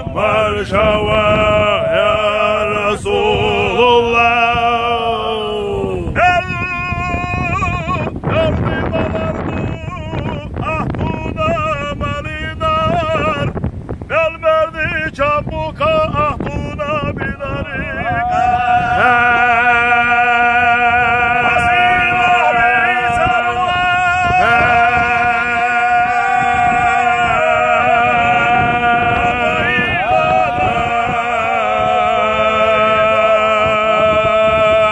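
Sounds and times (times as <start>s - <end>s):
man singing unaccompanied: 0.0s - 34.9s.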